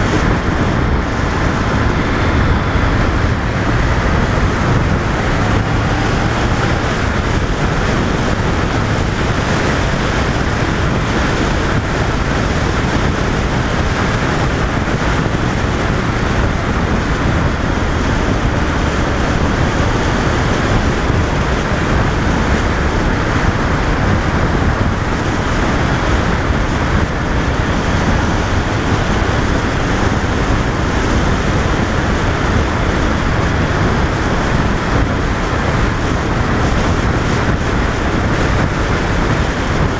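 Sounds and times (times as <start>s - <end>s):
motorcycle engine running: 0.0s - 39.9s
road noise: 0.0s - 39.9s
wind rushing on microphone: 0.0s - 39.9s.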